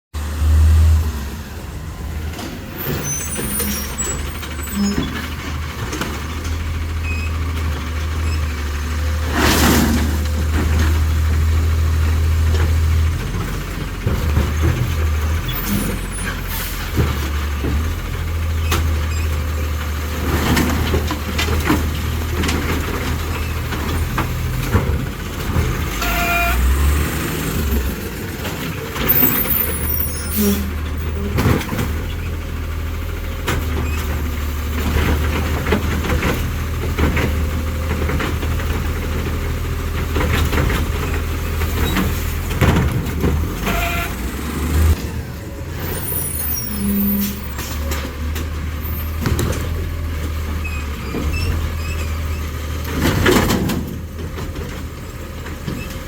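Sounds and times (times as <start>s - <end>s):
garbage truck engine rumble: 0.2s - 56.0s
mechanical arm and carts clanking: 2.0s - 56.0s.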